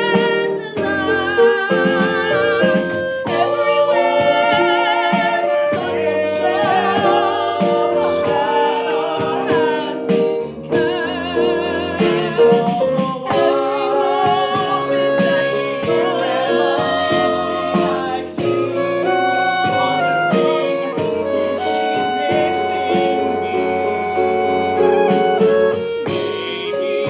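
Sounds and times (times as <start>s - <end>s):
instrumental accompaniment: 0.0s - 27.0s
person singing with vibrato: 0.0s - 27.0s.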